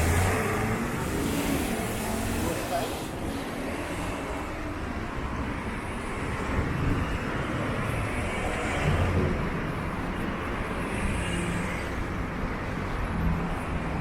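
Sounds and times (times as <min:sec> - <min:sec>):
low traffic rumble: 0:00.0 - 0:14.0
passing cars road noise: 0:00.0 - 0:14.0.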